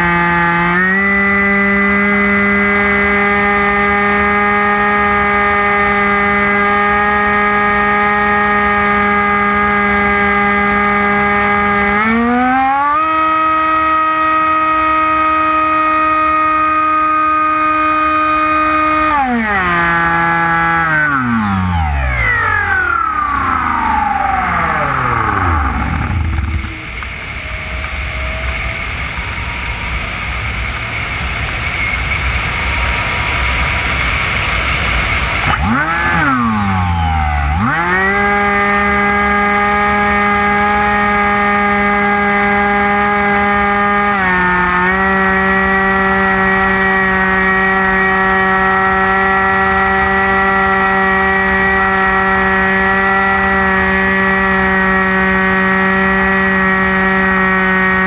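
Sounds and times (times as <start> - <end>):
electric motor whine: 0.0 - 58.0.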